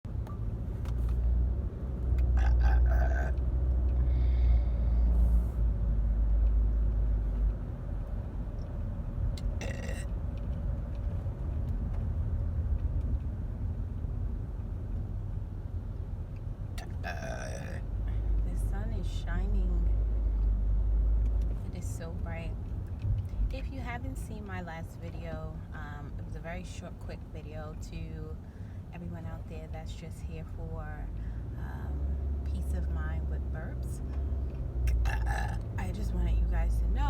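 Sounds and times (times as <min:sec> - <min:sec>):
road and engine rumble: 0:00.0 - 0:37.0.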